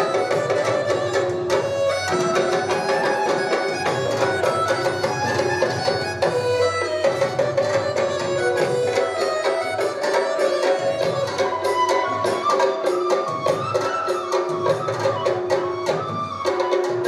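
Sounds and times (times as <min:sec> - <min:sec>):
folk dance melody: 0:00.0 - 0:17.0.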